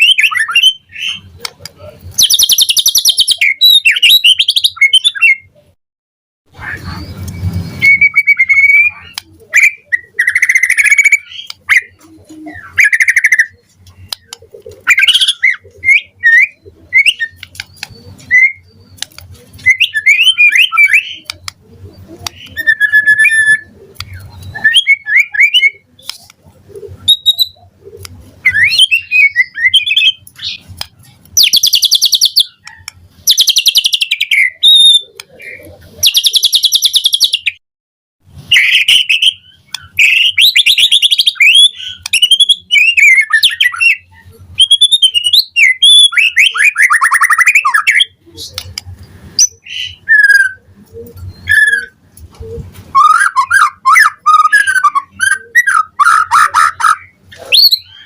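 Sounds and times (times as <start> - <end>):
bird singing whistles and trills: 0.0 - 1.3, 2.2 - 5.6, 6.6 - 19.0, 19.6 - 21.4, 22.1 - 26.1, 27.0 - 27.7, 28.4 - 30.6, 31.4 - 37.6, 38.5 - 48.6, 49.4 - 52.0, 52.9 - 58.0.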